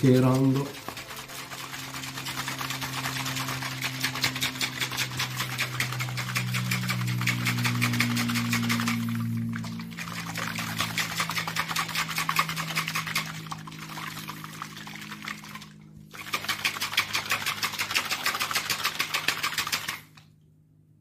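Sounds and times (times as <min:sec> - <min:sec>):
shaker bottle shaken with liquid sloshing: 0:00.0 - 0:20.3.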